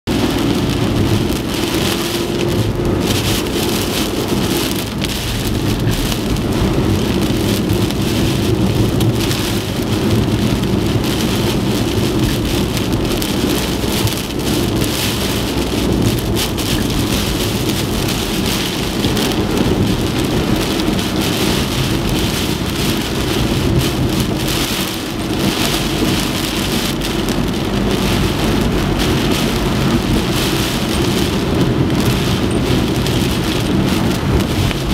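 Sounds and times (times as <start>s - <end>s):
heavy rain downpour: 0.0s - 34.9s
wind rumbling: 0.1s - 34.9s.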